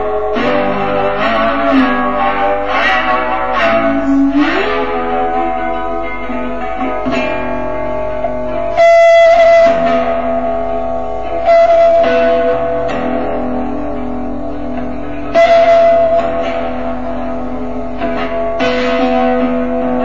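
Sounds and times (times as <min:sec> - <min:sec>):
guitar playing slow ringing notes: 0:00.0 - 0:20.0.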